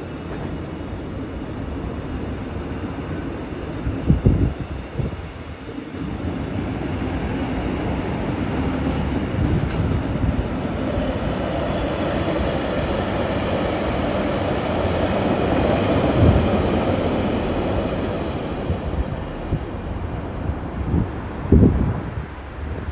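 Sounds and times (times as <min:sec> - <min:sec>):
train wheels rumbling on rail: 0:00.0 - 0:22.9.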